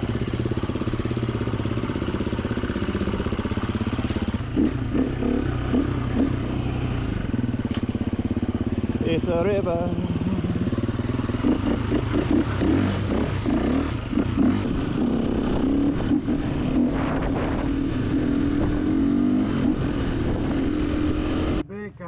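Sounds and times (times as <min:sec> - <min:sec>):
dirt bike engine revving: 0:00.0 - 0:21.6.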